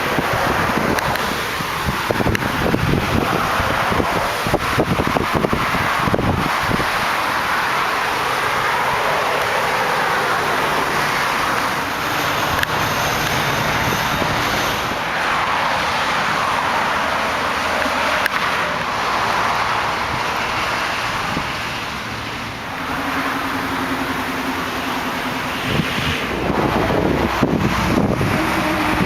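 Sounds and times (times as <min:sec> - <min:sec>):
highway traffic passing: 0:00.0 - 0:29.0.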